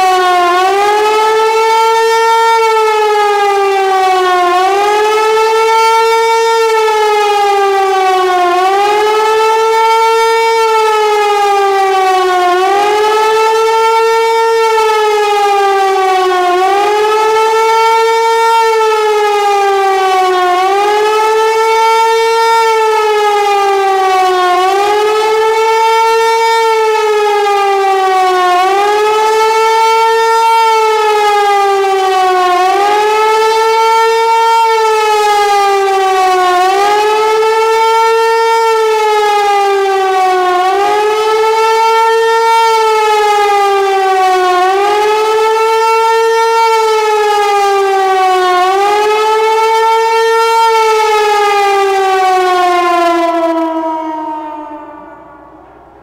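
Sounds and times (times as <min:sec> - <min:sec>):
siren howling with rising and falling pitch: 0:00.0 - 0:56.0.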